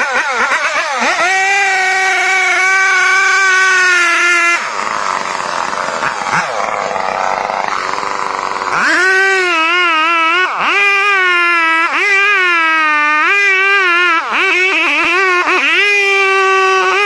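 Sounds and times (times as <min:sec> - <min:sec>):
chainsaw engine running hard: 0:00.0 - 0:17.0.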